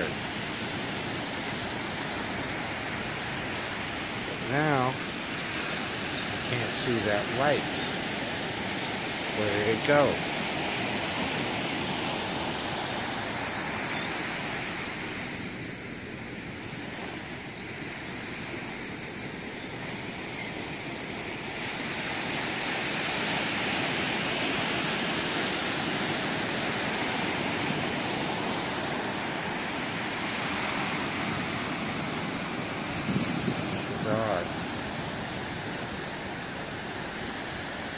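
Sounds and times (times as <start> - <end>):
ocean surf on beach: 0.0 - 37.9.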